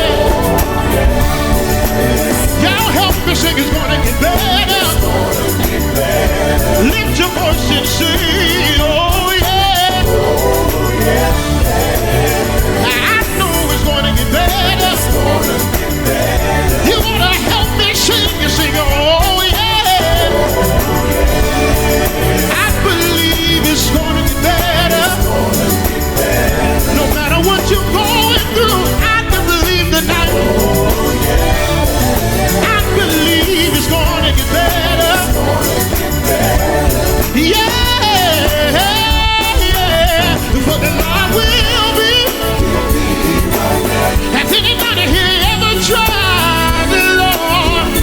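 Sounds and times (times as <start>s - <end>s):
band with heavy bass: 0.0s - 48.0s
gospel singing: 0.0s - 48.0s.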